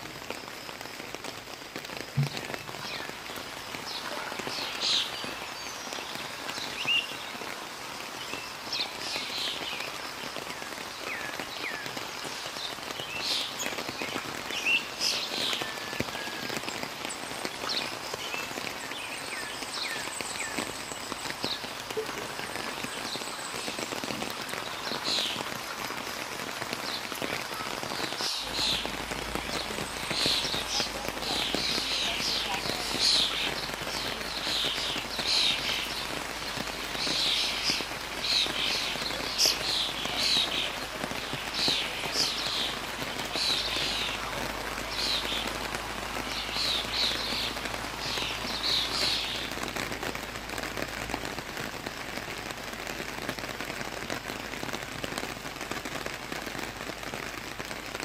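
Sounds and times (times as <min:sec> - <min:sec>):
rain pattering on foliage: 0:00.0 - 0:58.0.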